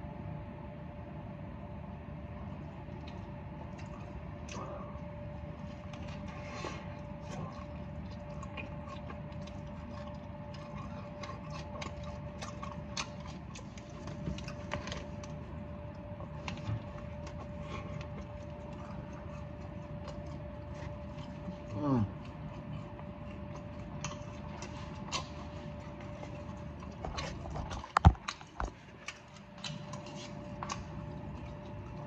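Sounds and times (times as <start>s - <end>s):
faint steady hum: 0.0s - 32.0s
chewing with wet mouth clicks: 2.4s - 32.0s.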